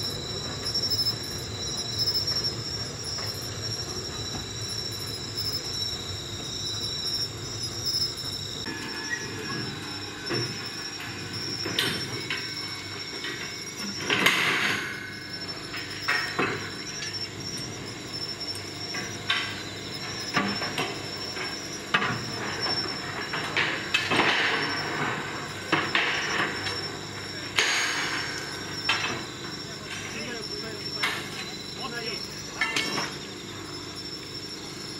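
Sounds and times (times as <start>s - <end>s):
crickets chirring: 0.0s - 34.9s.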